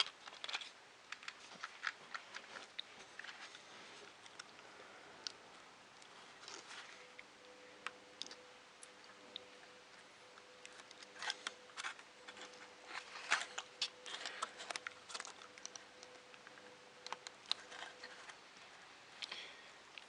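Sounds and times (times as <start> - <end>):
small clicks and handling noises: 0.0 - 5.4, 6.0 - 20.0
faint steady hum: 0.0 - 20.0.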